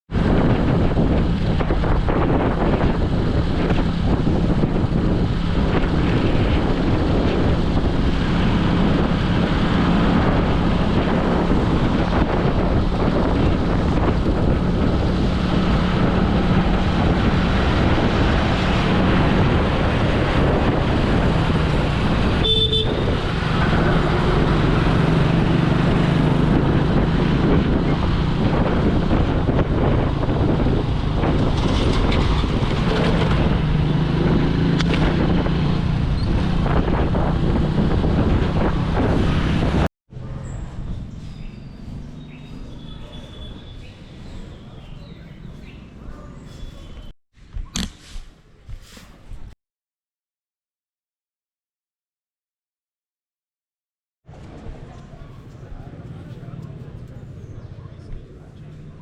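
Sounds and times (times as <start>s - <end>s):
road and traffic noise: 0.1s - 47.1s, 54.3s - 59.0s
vehicle engine drone: 0.1s - 47.1s, 54.3s - 59.0s.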